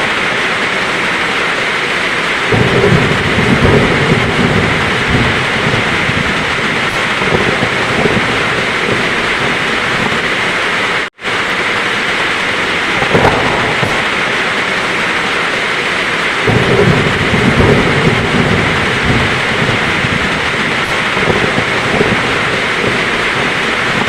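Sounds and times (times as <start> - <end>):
heavy rain pouring: 0.0 - 24.0
low thunder rumble: 0.8 - 24.0.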